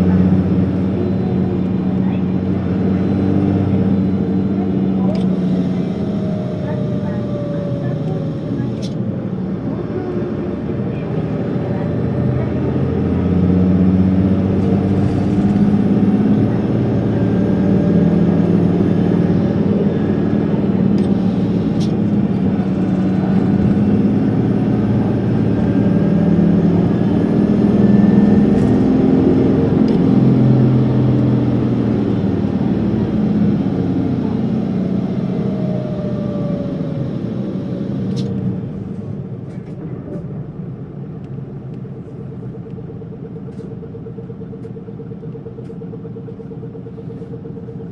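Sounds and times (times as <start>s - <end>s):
bus diesel engine running: 0.0s - 47.9s.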